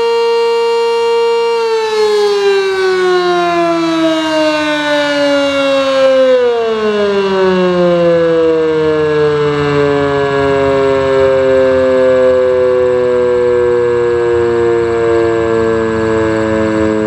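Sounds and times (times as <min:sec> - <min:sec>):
warning siren single tone: 0:00.0 - 0:17.0.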